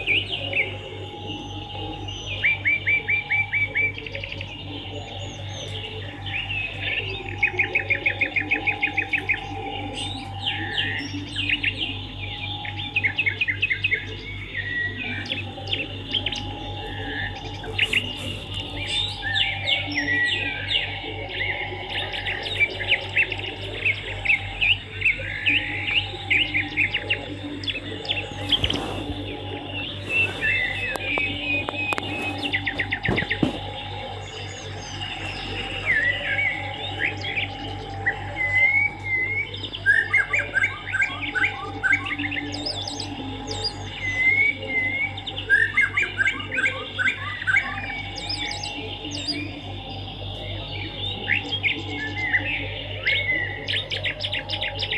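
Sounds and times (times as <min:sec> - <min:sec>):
birds chirping rapidly: 0:00.0 - 0:54.9
low electrical hum: 0:00.0 - 0:54.9.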